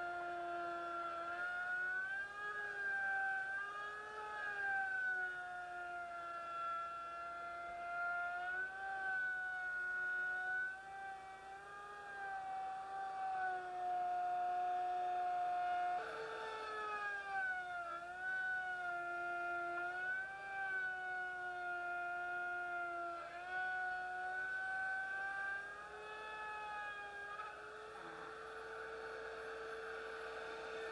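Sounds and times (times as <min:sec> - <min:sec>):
electric wood router whining: 0:00.0 - 0:30.9.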